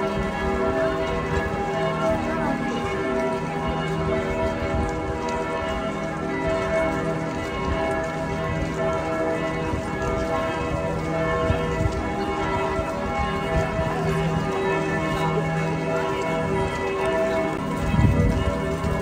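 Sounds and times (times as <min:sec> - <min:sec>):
church bells pealing: 0:00.0 - 0:19.0.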